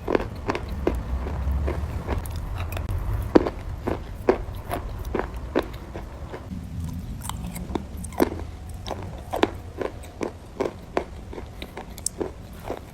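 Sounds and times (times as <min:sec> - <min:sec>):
chalk being chewed: 0:00.0 - 0:12.9
low steady hum: 0:00.0 - 0:12.9.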